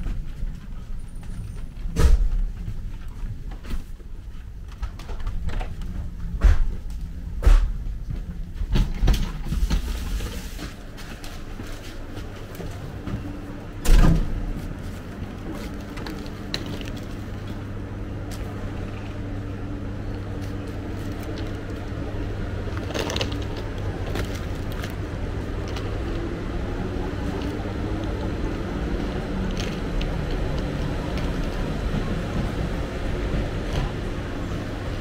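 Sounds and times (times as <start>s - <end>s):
parked train humming: 0.0s - 35.0s.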